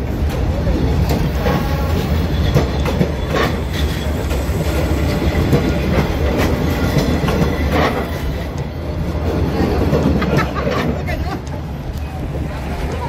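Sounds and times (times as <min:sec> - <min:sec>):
heavy rumble of carriages: 0:00.0 - 0:13.0
wheels clacking over rail joints: 0:00.0 - 0:13.0.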